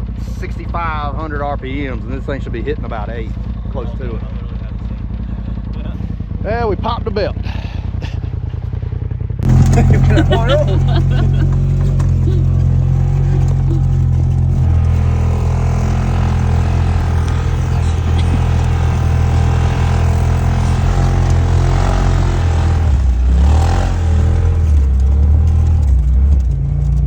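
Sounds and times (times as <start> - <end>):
utility vehicle engine running: 0.0 - 27.0.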